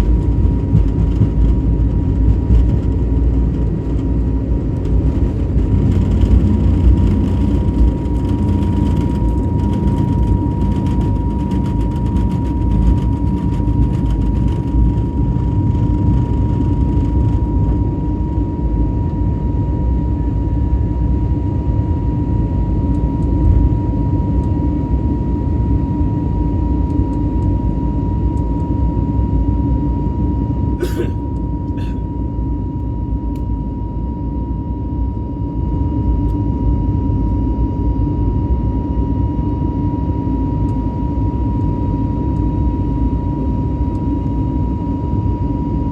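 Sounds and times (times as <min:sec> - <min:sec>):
jet engines roaring in cabin: 0:00.0 - 0:45.9.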